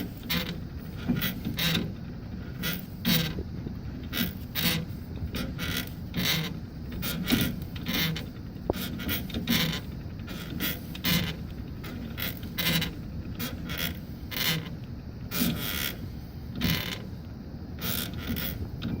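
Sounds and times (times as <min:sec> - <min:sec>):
bearing creaking scrape: 0:00.0 - 0:17.1, 0:17.8 - 0:19.0.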